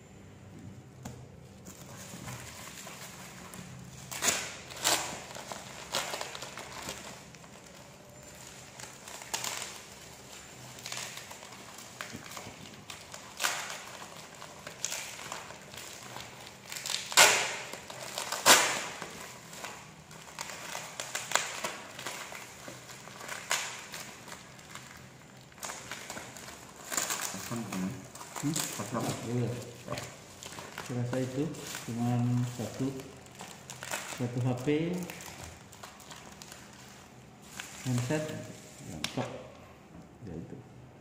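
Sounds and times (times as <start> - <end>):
packing tape and plastic crinkling: 1.0 - 39.6.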